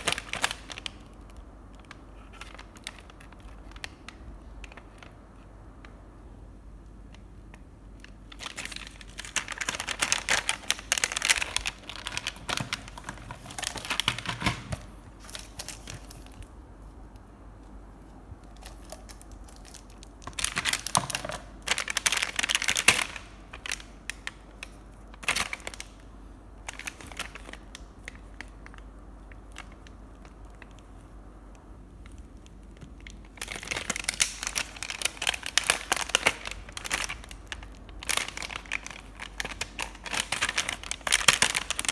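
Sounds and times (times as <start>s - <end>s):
plastic packaging crinkling: 0.0s - 5.4s, 7.9s - 16.6s, 17.6s - 31.2s, 31.8s - 41.9s.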